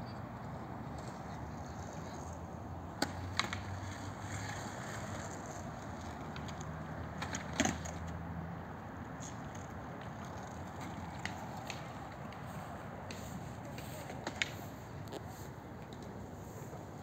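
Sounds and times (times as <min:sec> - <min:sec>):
skateboard wheels clacking on concrete: 0:00.7 - 0:08.2, 0:09.2 - 0:17.0.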